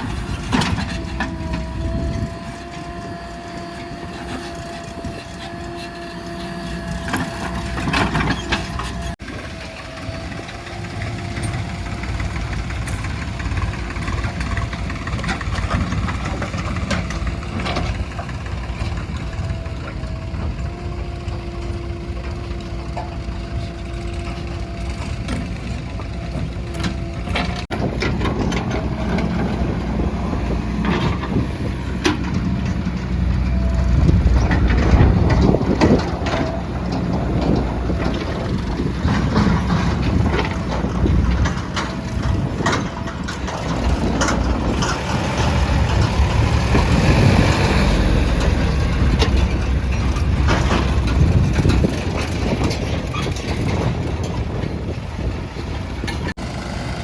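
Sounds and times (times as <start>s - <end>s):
diesel engines under load: 0.0s - 57.0s.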